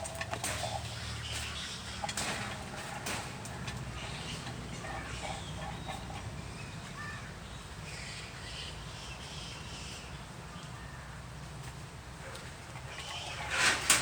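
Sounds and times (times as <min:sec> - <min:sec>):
birds calling: 0:00.0 - 0:11.2, 0:12.2 - 0:14.0.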